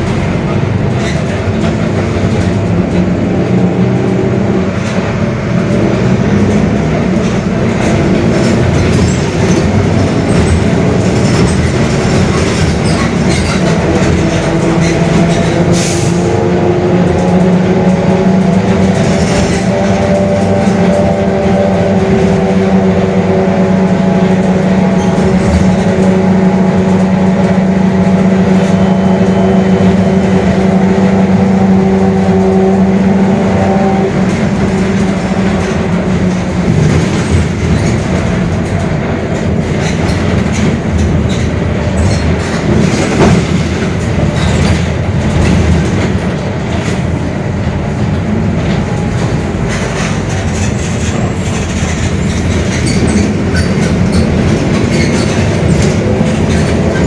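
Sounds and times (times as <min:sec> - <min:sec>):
bus differential growling: 0:00.0 - 0:57.0
rattling bus body: 0:00.0 - 0:57.0.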